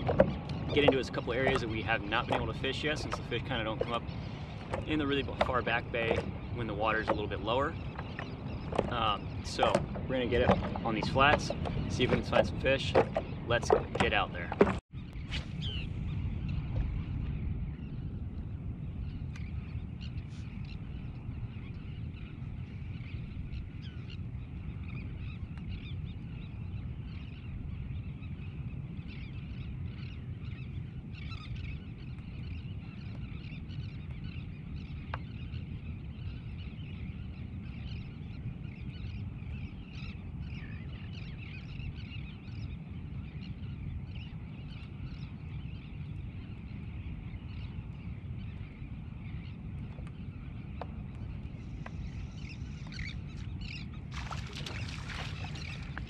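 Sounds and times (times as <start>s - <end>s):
distant birds chirping: 0.0s - 56.0s.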